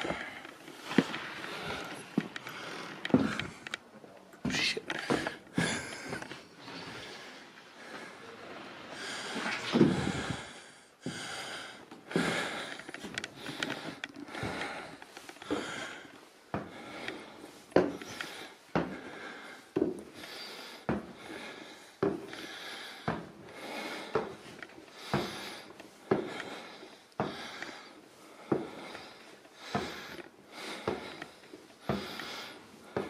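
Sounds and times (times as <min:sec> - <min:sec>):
footsteps on wooden stairs: 0:00.0 - 0:33.0.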